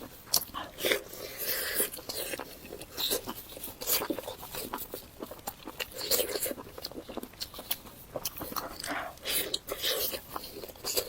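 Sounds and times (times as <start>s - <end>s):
biting and chewing: 0.0s - 11.0s.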